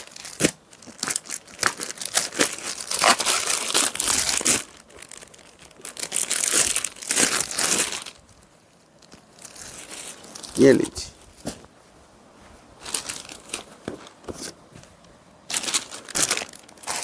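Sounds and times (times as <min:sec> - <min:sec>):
plastic packaging crinkling: 0:00.0 - 0:10.8, 0:12.8 - 0:14.6, 0:15.5 - 0:17.0.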